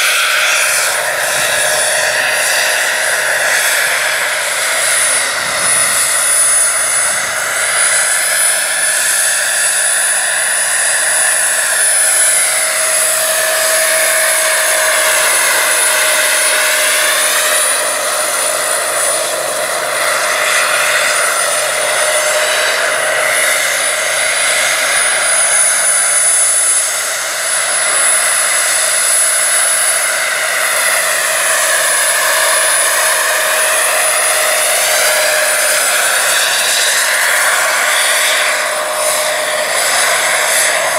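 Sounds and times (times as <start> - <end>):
model helicopter turbine whine: 0.0 - 40.9.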